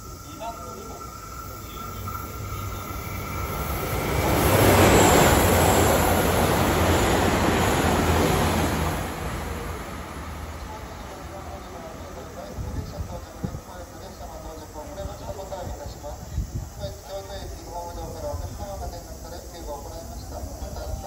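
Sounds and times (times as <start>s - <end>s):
train passing at speed: 0.0s - 21.0s.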